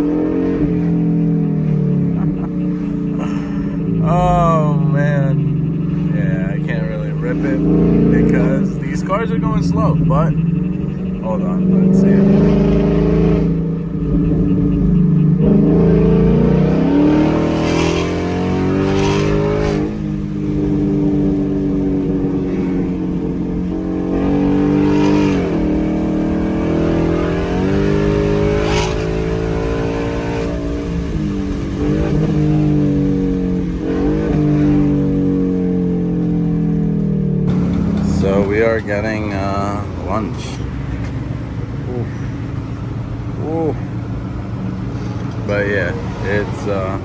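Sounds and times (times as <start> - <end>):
car engine accelerating hard: 0.0 - 47.0
exhaust crack at gear shift: 0.0 - 47.0.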